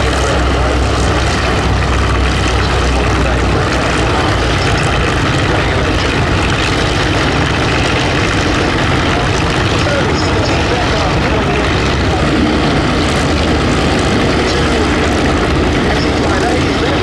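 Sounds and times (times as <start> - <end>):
propeller aircraft engine rumble: 0.0 - 17.0.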